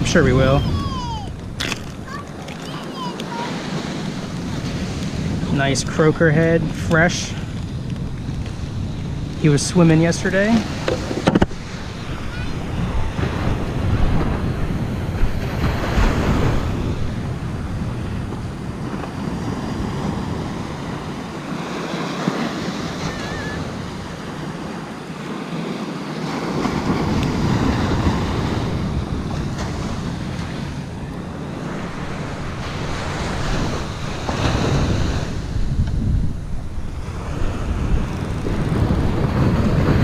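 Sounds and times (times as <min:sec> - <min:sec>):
ocean surf on beach: 0:00.0 - 0:40.0
wind buffeting microphone: 0:00.0 - 0:40.0.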